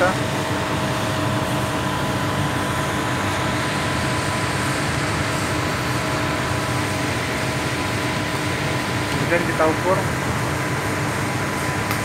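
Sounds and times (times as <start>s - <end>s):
air conditioner blower rushing: 0.0s - 12.0s.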